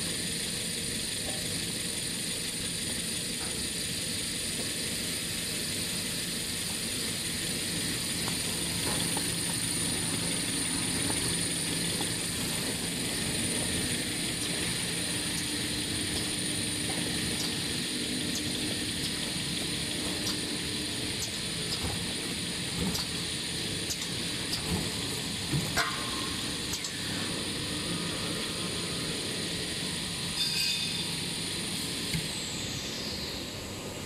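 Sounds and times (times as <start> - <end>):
high steady whine: 4.3 - 34.0
machinery drone: 4.6 - 34.0.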